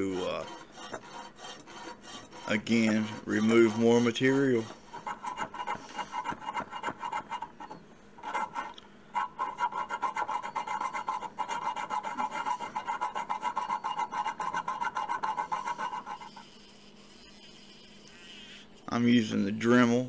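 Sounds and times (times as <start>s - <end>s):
hand file rasping on steel: 0.0s - 18.2s.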